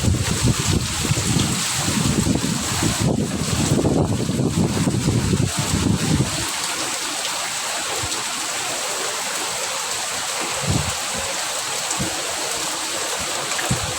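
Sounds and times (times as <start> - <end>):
wind gusts buffeting microphone: 0.0 - 9.0, 9.6 - 13.9
heavy rain pouring: 0.0 - 13.9.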